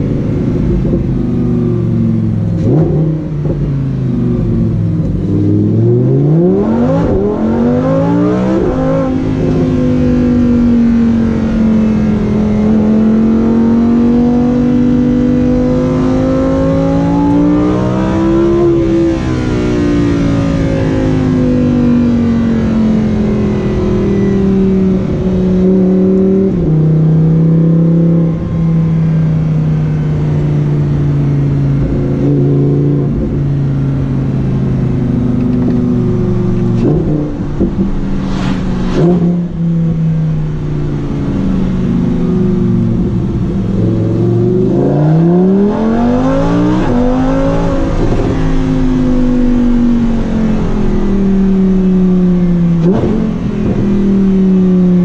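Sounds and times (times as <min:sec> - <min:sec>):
sports car engine revving: 0:00.0 - 0:55.0.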